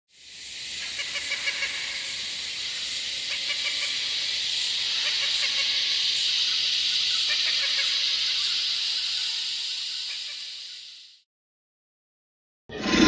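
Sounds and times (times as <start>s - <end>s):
steady hissing noise: 0.1s - 11.2s.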